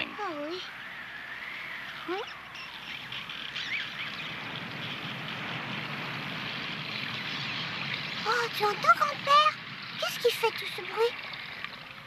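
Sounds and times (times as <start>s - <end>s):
wind through fir trees: 0.0s - 12.0s.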